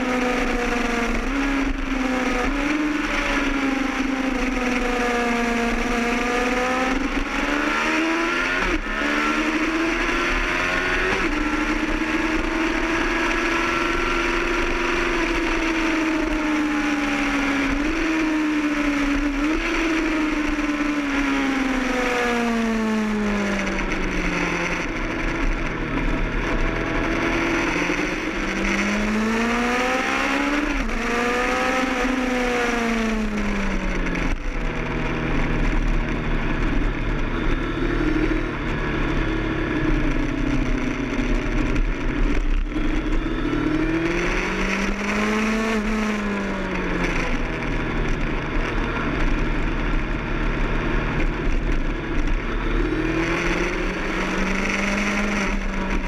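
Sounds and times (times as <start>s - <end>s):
motorcycle engine revving at speed: 0.0s - 56.0s.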